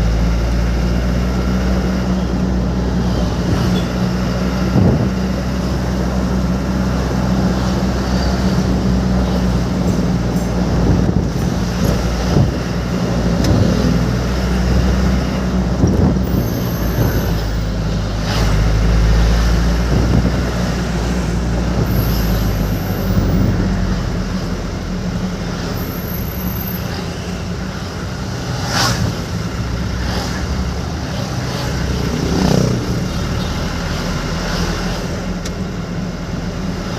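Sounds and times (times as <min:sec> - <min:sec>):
road noise: 0:00.0 - 0:36.9
vehicle engine humming: 0:00.0 - 0:36.9.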